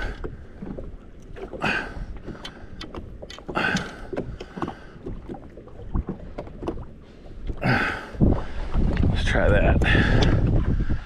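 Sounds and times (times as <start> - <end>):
low wind: 0.0 - 11.0
water rumble: 0.0 - 11.0.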